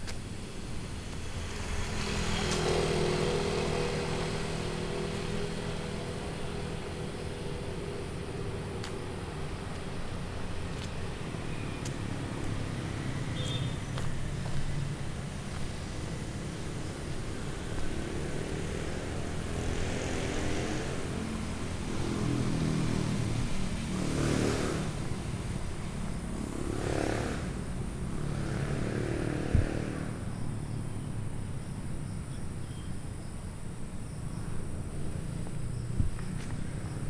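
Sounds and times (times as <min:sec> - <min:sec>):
motor vehicles passing: 0:00.0 - 0:32.2, 0:33.6 - 0:37.0
background traffic rumble: 0:00.0 - 0:37.0.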